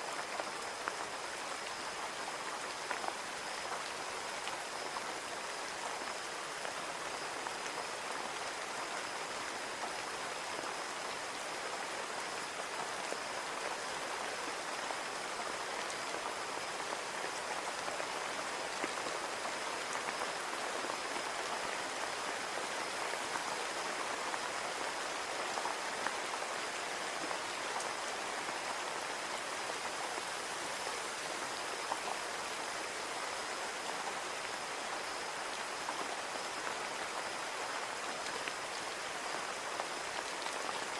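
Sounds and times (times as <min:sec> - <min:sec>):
rain falling on a window: 0:00.0 - 0:40.9.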